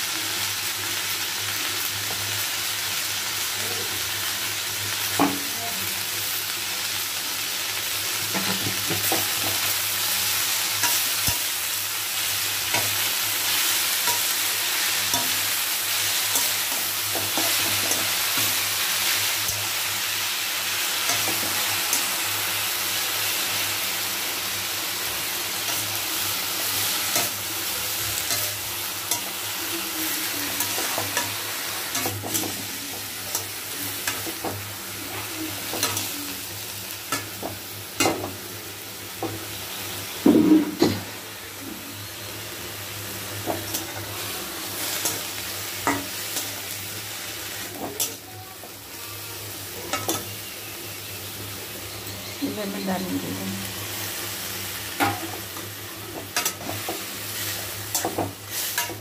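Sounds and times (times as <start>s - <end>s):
greens sizzling in oil: 0.0s - 59.0s.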